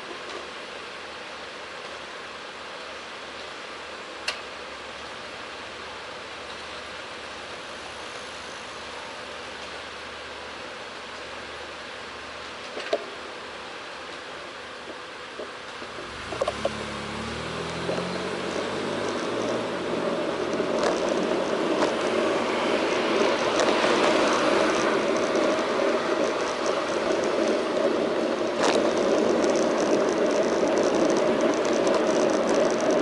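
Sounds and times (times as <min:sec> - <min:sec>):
bicycle riding noise on road: 0:00.0 - 0:33.0.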